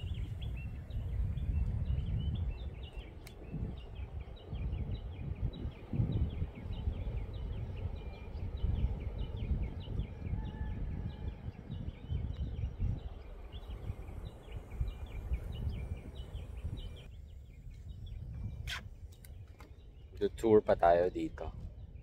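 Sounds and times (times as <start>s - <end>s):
small birds chirping: 0.0s - 22.0s
wind buffeting microphone: 0.0s - 22.0s.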